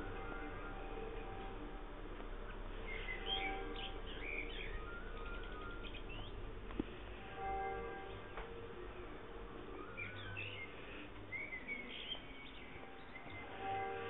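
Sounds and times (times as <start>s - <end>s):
church bell ringing: 0.0s - 14.0s
songbirds chirping: 0.0s - 14.0s.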